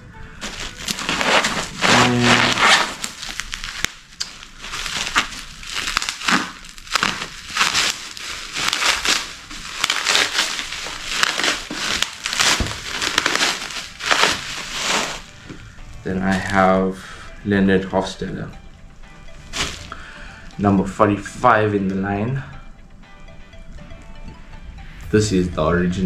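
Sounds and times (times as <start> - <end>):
packaging crinkling and rustling: 0.0 - 21.5.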